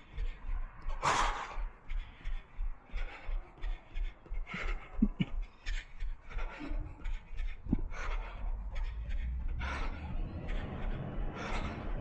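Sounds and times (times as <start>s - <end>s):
heavy breathing and panting: 0.0s - 12.0s.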